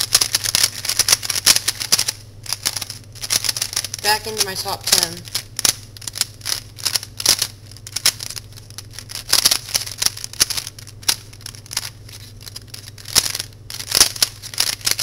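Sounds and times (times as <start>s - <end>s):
speed cube clicking: 0.0s - 15.0s.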